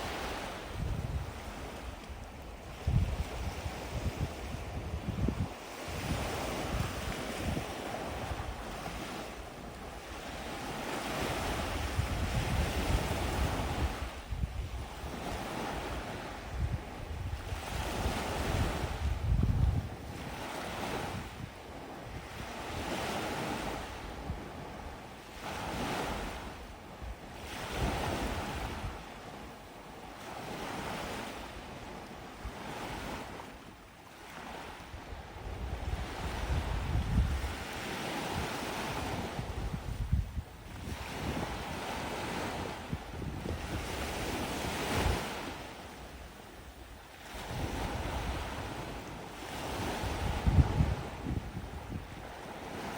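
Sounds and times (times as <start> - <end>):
gentle waves on a beach: 0.0 - 52.9
wind rumble on microphone: 0.0 - 52.9.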